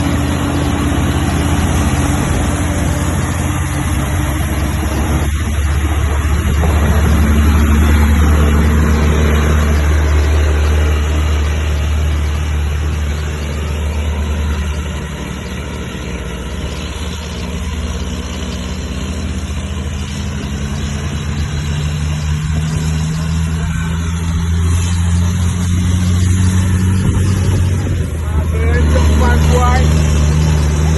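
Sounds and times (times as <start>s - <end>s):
truck diesel engine idling: 0.0s - 30.9s.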